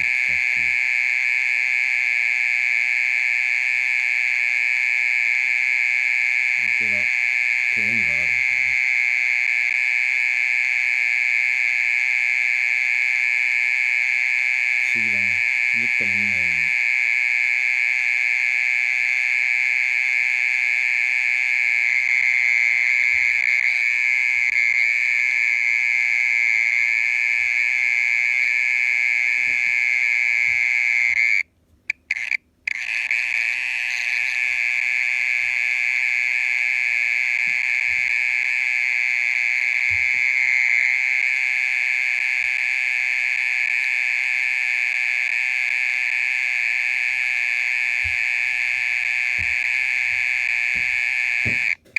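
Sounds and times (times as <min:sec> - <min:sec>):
mole cricket buzzing trill: 0:00.0 - 0:51.9.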